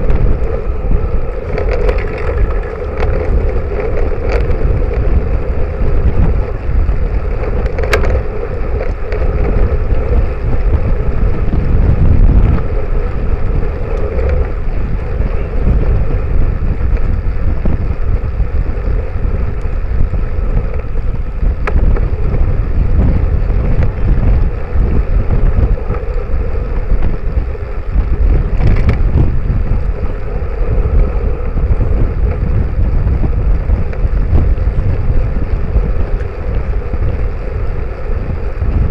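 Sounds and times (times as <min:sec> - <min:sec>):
road and tyre noise: 0:00.0 - 0:38.9
wind buffeting microphone: 0:00.0 - 0:38.9.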